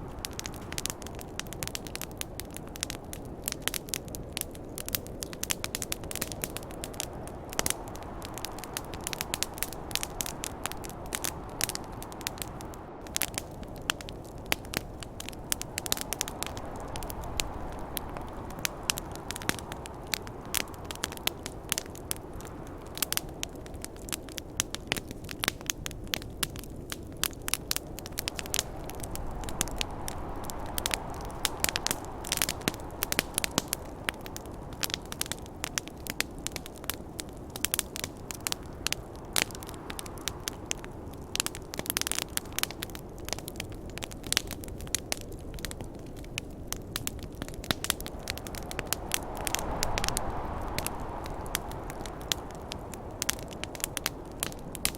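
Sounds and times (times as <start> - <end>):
low rushing wind: 0.0 - 54.9
wood fire crackling and popping: 0.0 - 54.9.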